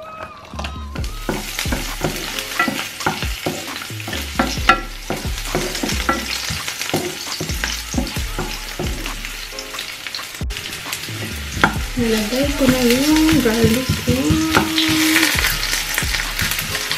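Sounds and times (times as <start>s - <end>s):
garlic and onion frying: 0.0s - 16.9s.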